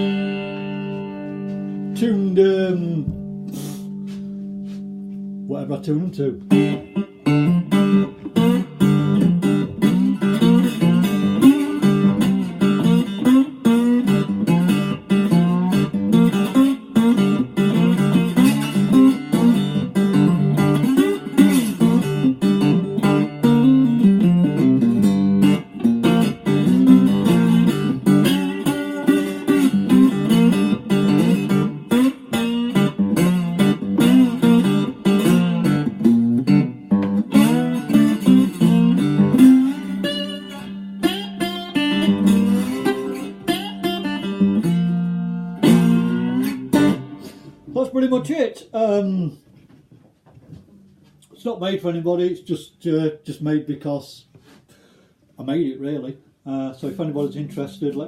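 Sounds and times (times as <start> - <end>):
resonator guitar playing: 0.0 - 49.2, 55.8 - 58.0.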